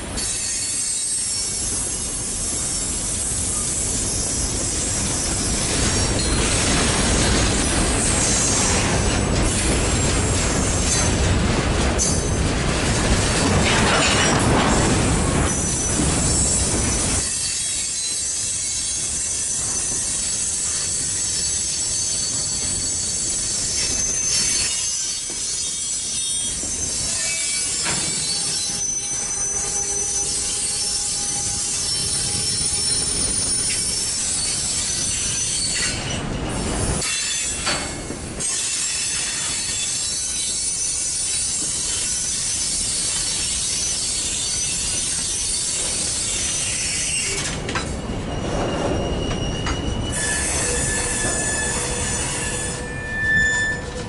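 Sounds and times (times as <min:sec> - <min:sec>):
train wheels rumbling on rail: 0:00.0 - 0:54.0
high wheel squeal: 0:00.2 - 0:06.8, 0:15.4 - 0:54.0.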